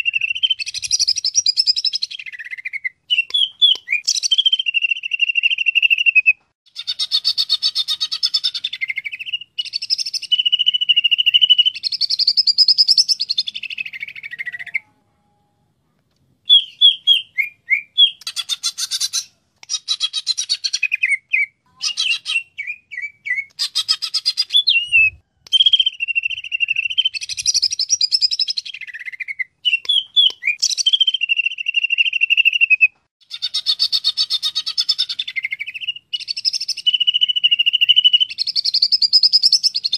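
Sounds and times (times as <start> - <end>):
bird singing whistles and trills: 0.0 - 14.9, 16.4 - 39.9.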